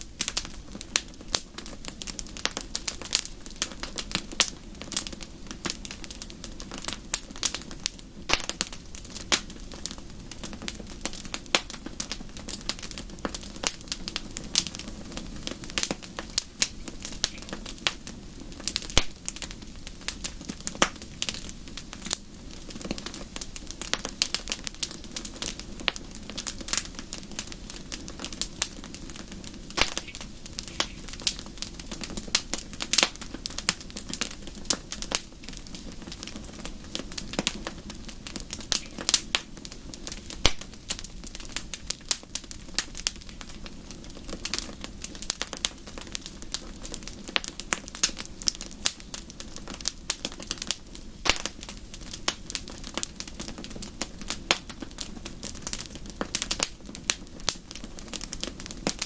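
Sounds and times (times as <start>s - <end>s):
fire flames rumbling: 0.0s - 59.0s
wood fire snapping and popping: 0.0s - 59.0s.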